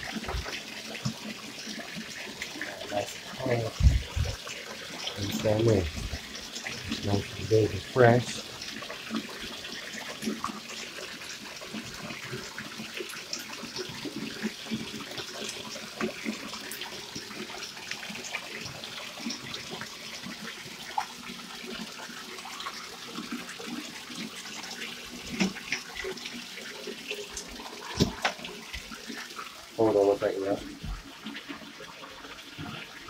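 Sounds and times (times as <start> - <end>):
water running into bathtub: 0.0 - 33.0.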